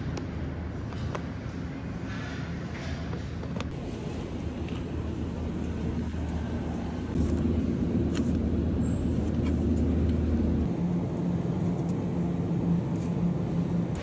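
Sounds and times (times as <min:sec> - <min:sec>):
refrigerator electrical hum: 0:00.0 - 0:14.0.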